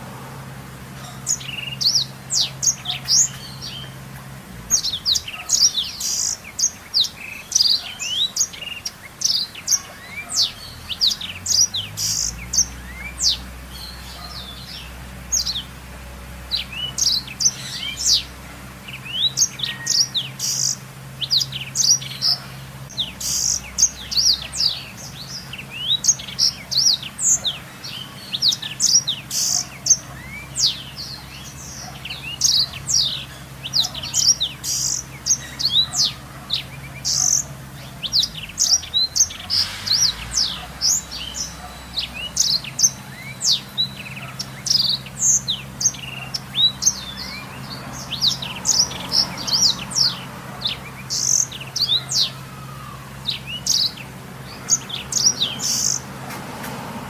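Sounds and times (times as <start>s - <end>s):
canary singing chirps and trills: 0.0s - 57.0s.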